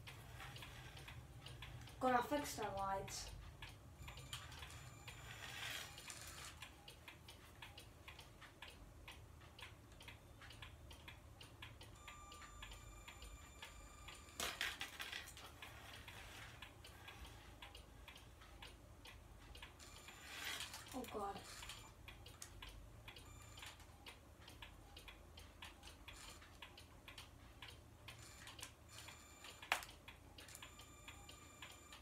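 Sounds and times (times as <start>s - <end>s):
grandfather clock ticking: 0.0s - 14.2s, 15.4s - 32.0s.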